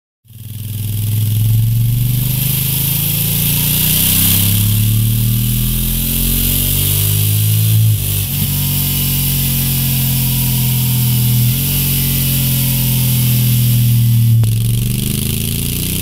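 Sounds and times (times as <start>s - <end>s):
motorcycle engine drone: 0.2s - 16.0s
steady hiss: 1.7s - 14.6s.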